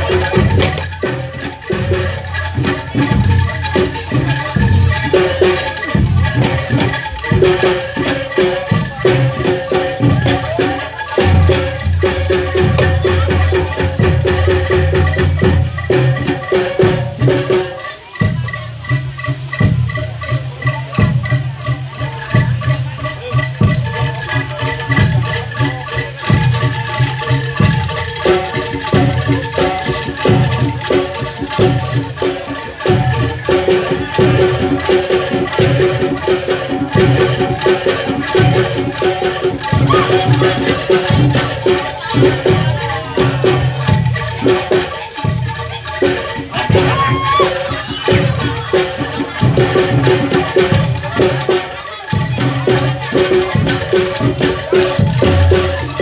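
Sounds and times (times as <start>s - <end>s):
drums beating steady rhythm: 0.0s - 56.0s
ringing mallet percussion: 0.0s - 56.0s
sustained melodic tones: 0.0s - 56.0s.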